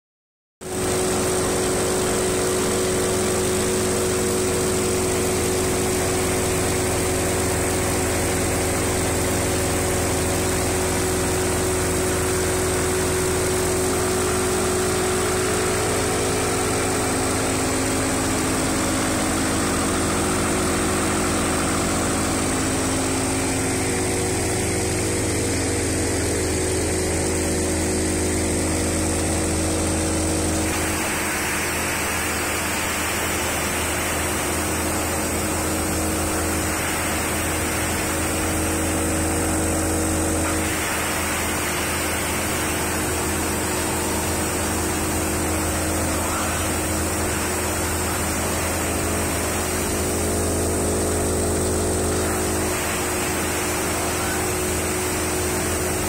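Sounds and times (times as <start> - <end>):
wood chipper diesel engine running: 0.6 - 56.0
hissing rush of material spraying: 0.7 - 56.0.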